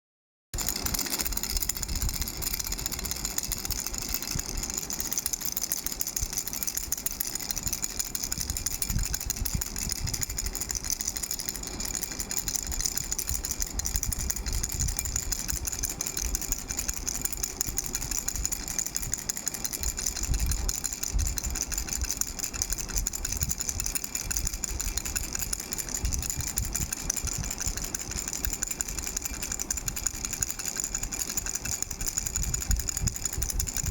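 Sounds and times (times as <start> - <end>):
baby rattle shaken: 0.6 - 33.9.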